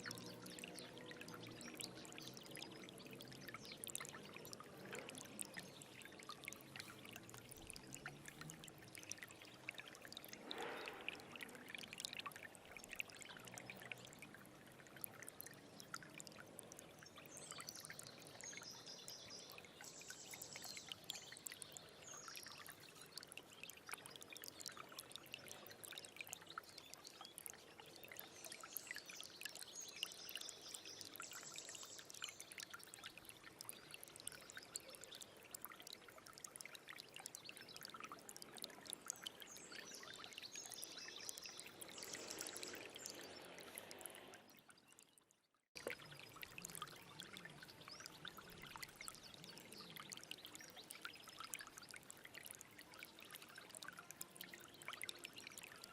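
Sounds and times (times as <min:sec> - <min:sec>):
stream trickling and gurgling: 0:00.0 - 0:55.9.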